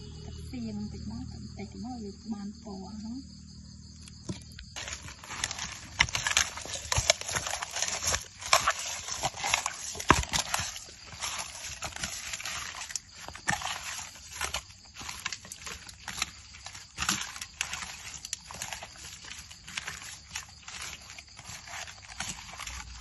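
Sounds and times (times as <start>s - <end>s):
wet squelching of kneading: 3.9s - 23.0s.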